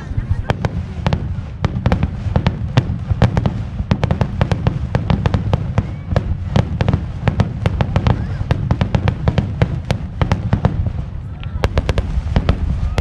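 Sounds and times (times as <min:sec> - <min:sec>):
low rumble of explosions: 0:00.0 - 0:13.0.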